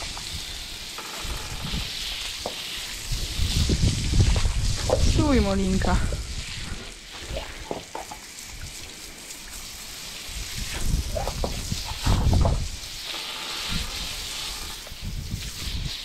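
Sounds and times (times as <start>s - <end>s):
water spray hissing: 0.0s - 16.0s.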